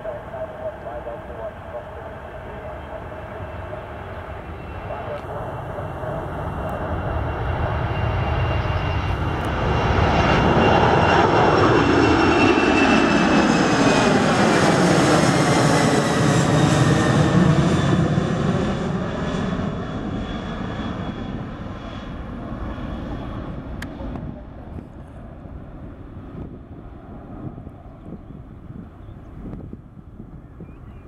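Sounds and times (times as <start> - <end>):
high engine whine: 0.0 - 31.0
jet airliner roar: 0.0 - 31.0.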